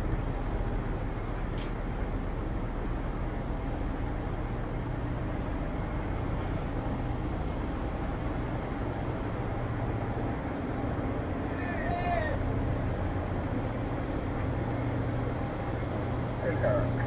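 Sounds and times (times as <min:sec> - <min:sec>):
constant hiss: 0:00.0 - 0:17.0
low rumble of ship engines: 0:00.0 - 0:17.0.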